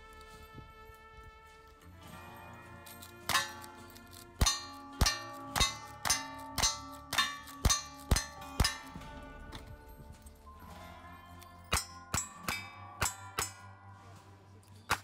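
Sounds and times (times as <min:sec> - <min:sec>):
steel target clanging: 0:02.2 - 0:15.0.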